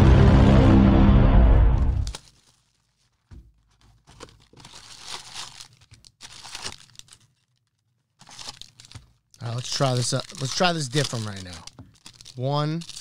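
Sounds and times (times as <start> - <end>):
foil wrappers crinkling: 2.1 - 13.0.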